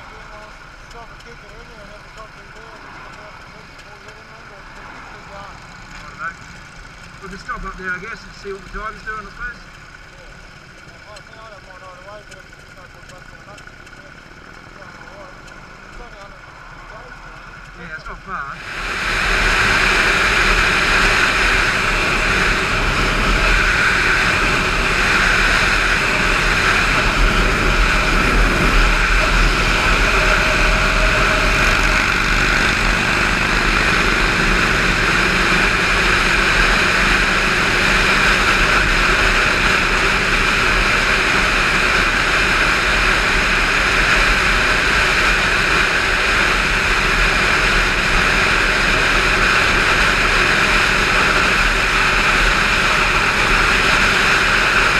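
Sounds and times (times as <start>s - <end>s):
motorcycle engine drone: 0.0s - 54.9s.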